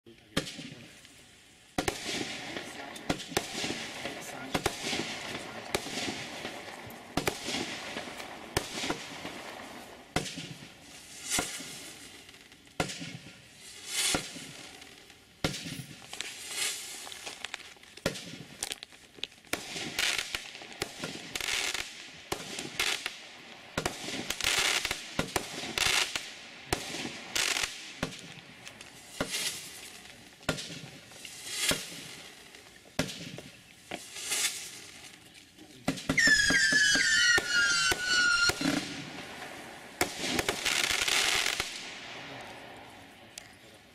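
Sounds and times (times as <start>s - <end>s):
firework bangs: 0.3s - 1.0s, 1.7s - 18.9s, 19.5s - 35.1s, 35.8s - 43.0s
sparks crackling: 0.3s - 42.6s.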